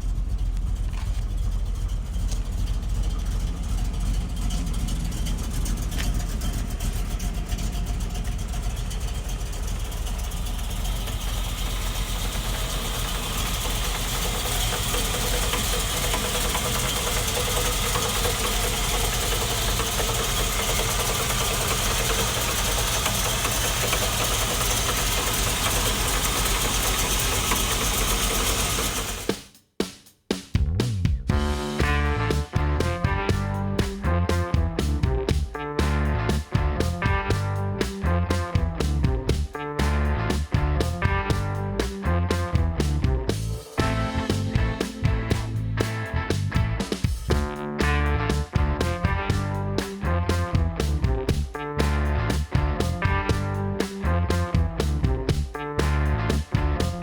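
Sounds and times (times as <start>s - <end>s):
car engine running: 0.0s - 29.4s, 31.3s - 57.0s.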